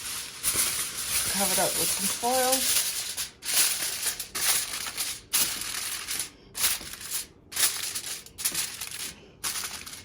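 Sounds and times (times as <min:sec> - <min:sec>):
aluminum foil crinkling: 0:00.0 - 0:10.0.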